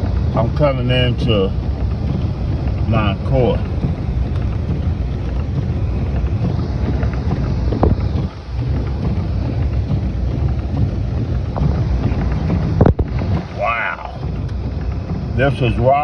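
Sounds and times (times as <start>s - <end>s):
vehicle rumbling through snow: 0.0s - 16.0s
wind noise on microphone: 0.0s - 16.0s.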